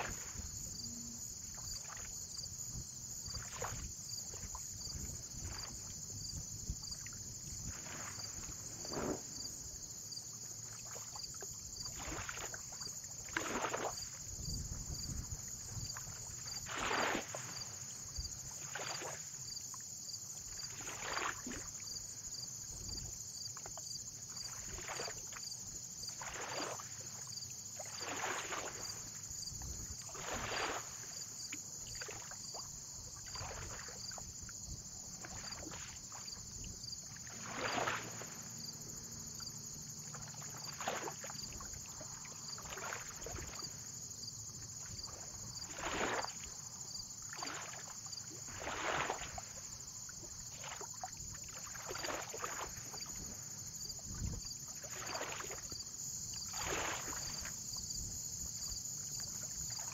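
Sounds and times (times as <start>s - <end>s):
small waves lapping: 0.0s - 59.9s.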